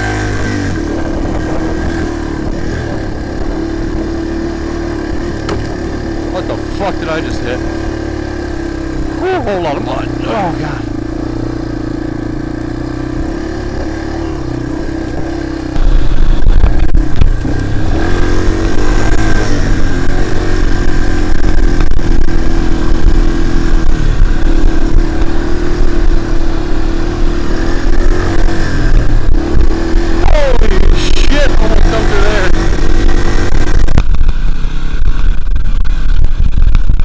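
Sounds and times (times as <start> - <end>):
dirt bike engine running: 0.0 - 37.0
loud low rumble: 0.4 - 31.0.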